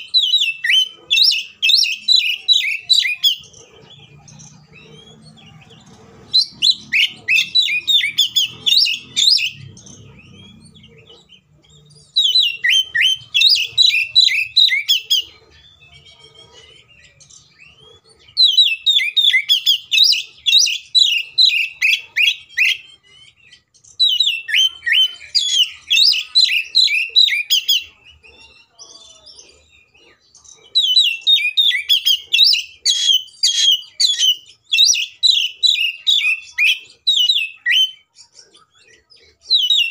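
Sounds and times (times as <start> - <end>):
bird singing sharp rapid notes: 0.0 - 39.9.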